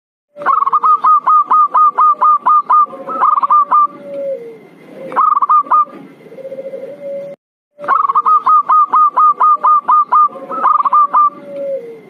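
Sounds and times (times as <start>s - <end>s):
dove cooing notes: 0.4s - 12.0s.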